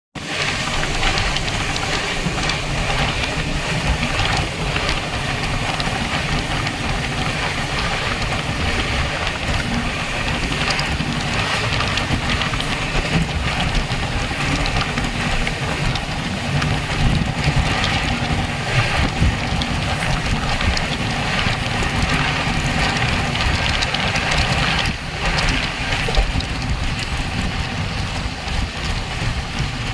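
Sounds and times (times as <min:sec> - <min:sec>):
train clicks and rattles: 0:00.2 - 0:29.9
train rumbling and rushing: 0:00.2 - 0:29.9.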